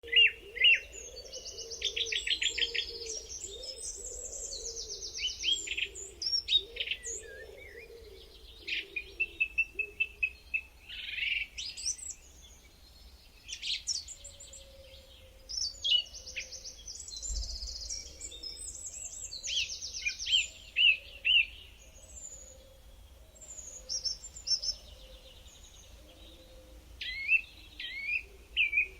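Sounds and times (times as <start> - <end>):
songbird singing: 0.0 - 28.9.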